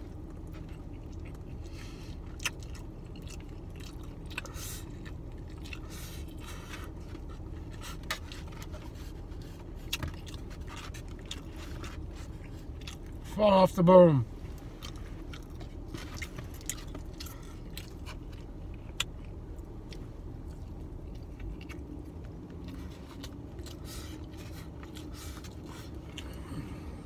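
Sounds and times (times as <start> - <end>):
person chewing food: 0.0 - 13.4, 14.5 - 27.0
low steady hum: 0.0 - 27.0.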